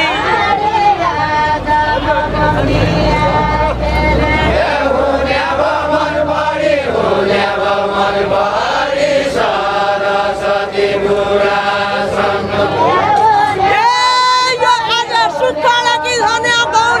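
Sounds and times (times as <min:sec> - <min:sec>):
group singing in unison: 0:00.0 - 0:17.0.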